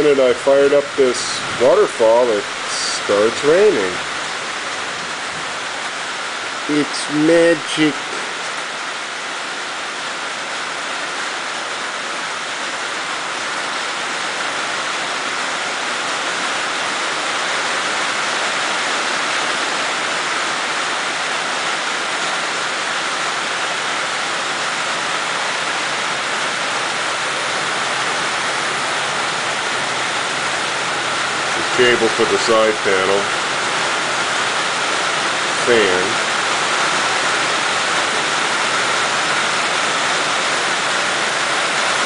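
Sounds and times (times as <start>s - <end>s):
heavy rain on a metal roof: 0.0s - 42.0s.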